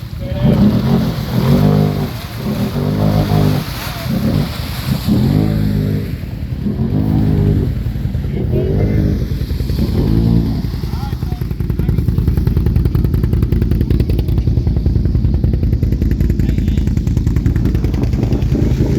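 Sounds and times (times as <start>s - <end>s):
atv engine revving: 0.0s - 18.9s
low engine rumble: 0.0s - 18.9s.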